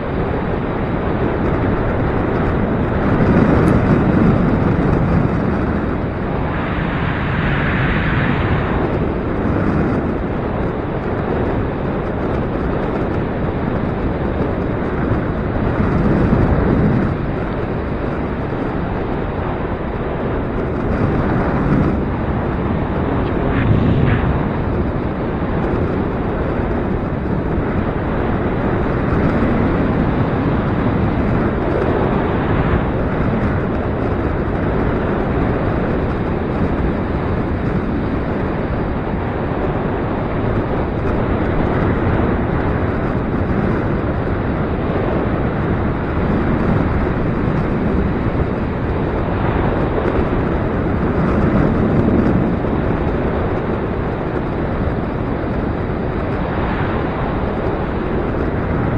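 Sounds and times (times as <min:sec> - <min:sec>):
gusty wind on microphone: 0:00.0 - 0:58.9.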